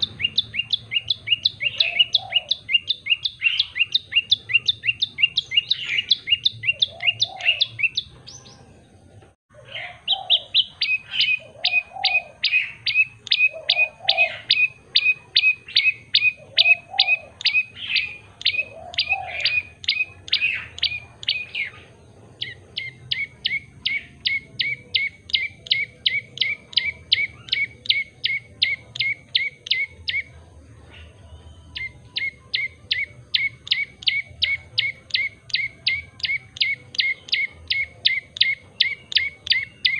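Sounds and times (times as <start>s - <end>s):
bird sharp repeated chirping: 0.0s - 9.0s, 9.7s - 39.9s.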